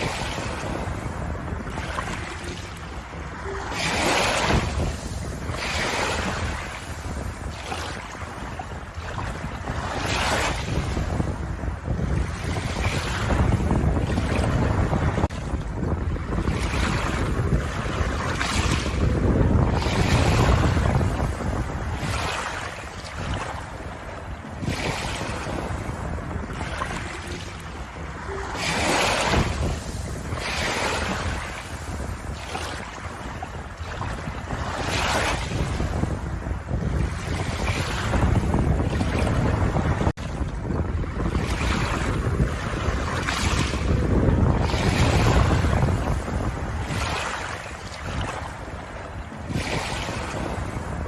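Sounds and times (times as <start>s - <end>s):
ocean waves washing on shore: 0.0s - 51.0s.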